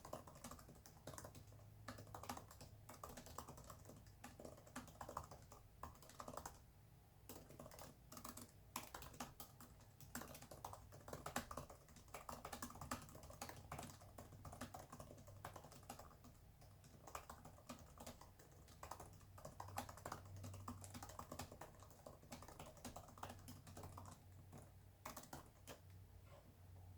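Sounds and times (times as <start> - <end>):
fast typing on keyboard: 0.0 - 6.7, 7.3 - 26.0.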